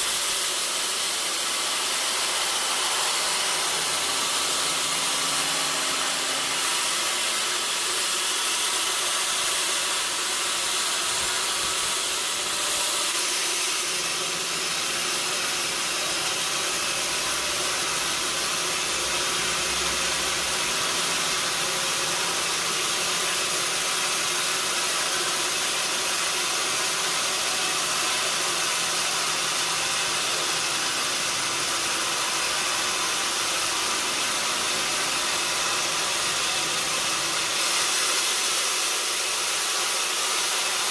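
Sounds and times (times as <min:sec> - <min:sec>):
saw hissing whir: 0:00.0 - 0:40.9.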